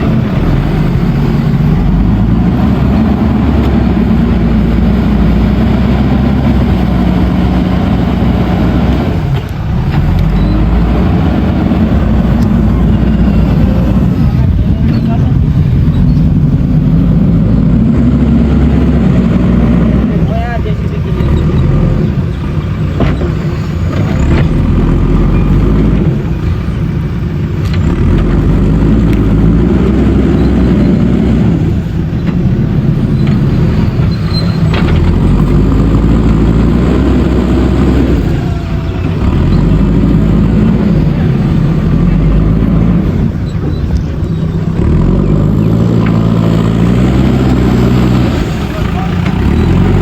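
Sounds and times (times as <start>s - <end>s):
backhoe diesel engine running hard: 0.0s - 50.0s.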